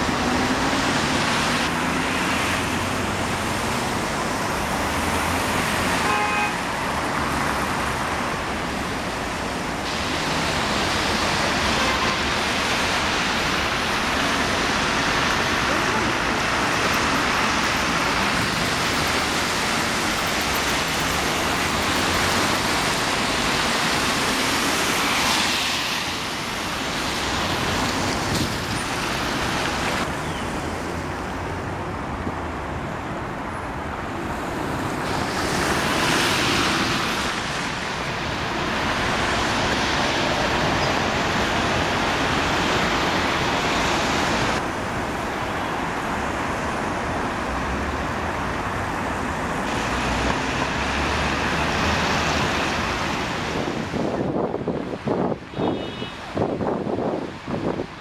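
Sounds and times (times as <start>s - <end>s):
traffic on wet road: 0.0s - 58.0s.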